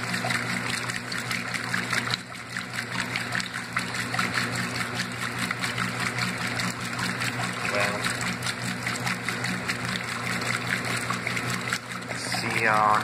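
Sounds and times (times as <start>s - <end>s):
low motor hum: 0.0s - 13.0s
water splashing in washing machine tub: 0.0s - 13.0s.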